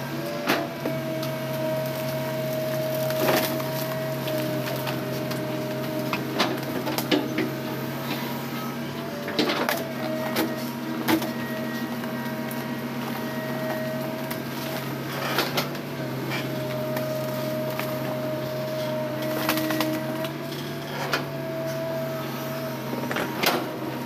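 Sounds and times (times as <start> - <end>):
excavator diesel engine running: 0.0 - 24.0
hydraulic whine: 0.0 - 24.0.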